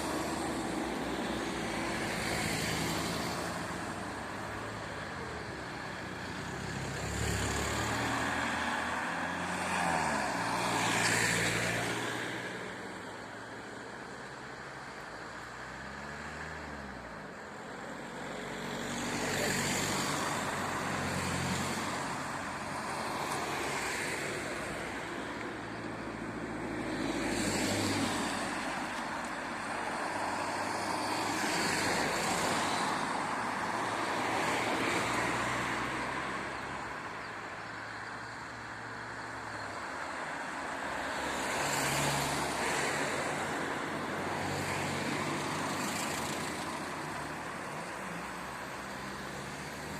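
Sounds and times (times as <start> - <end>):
vehicles driving past: 0.0 - 49.9.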